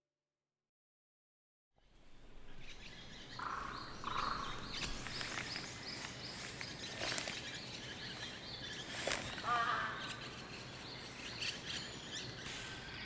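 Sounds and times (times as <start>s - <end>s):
outdoor background hiss: 1.9s - 13.0s
birds calling and singing: 2.0s - 13.0s.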